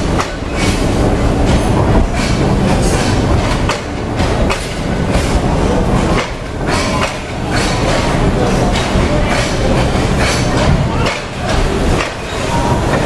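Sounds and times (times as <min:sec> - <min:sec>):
train wheels rumbling on rail: 0:00.0 - 0:13.0
wheels clacking over rail joints: 0:00.0 - 0:13.0.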